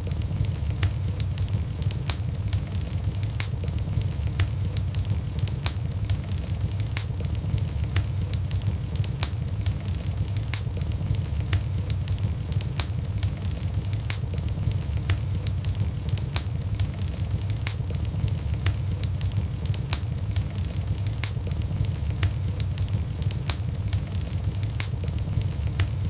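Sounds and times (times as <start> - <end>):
low rumble of fire: 0.0 - 26.0
sharp pops of fire: 0.0 - 26.0
wood fire crackling: 0.0 - 26.0.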